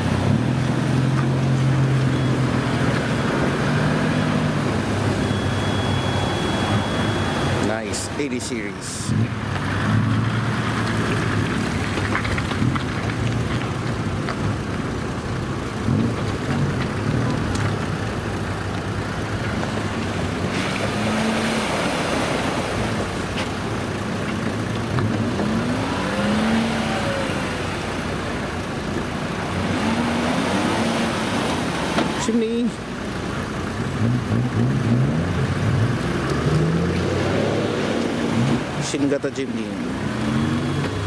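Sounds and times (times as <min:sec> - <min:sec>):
engines idling: 0:00.0 - 0:41.0
outdoor noise: 0:00.0 - 0:41.0.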